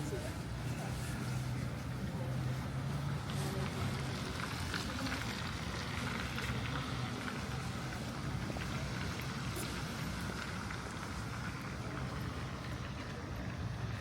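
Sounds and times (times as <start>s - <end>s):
street noise: 0.0s - 14.0s
vehicle engine hum: 0.0s - 14.0s.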